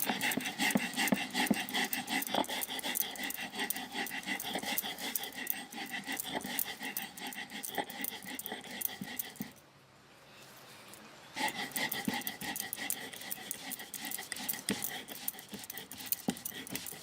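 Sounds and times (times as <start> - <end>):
stone roller rasping on slab: 0.0 - 9.6, 11.4 - 17.0.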